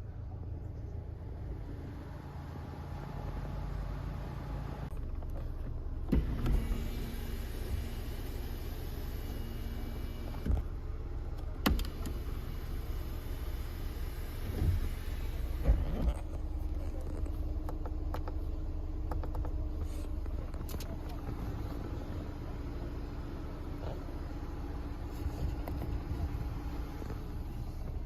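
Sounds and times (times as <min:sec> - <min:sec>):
car engine rumbling: 0:00.0 - 0:28.0.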